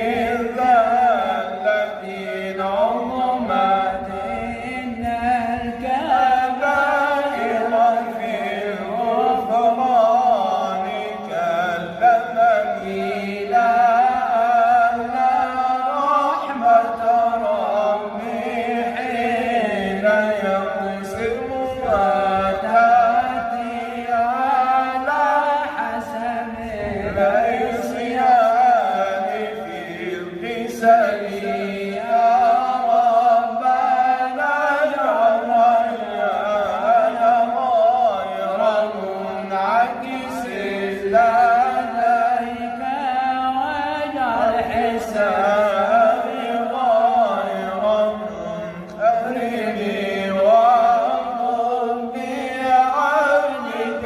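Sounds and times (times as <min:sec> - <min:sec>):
man chanting a devotional ode: 0:00.0 - 0:54.0.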